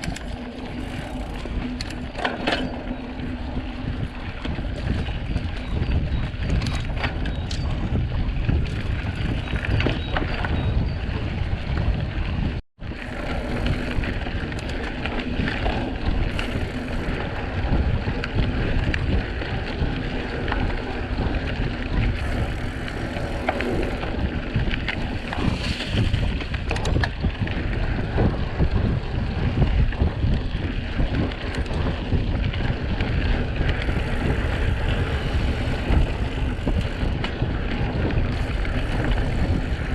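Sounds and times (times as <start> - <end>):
bike clicks and knocks: 0.0 - 12.0, 12.9 - 39.9
tyre and wind noise: 0.0 - 39.9.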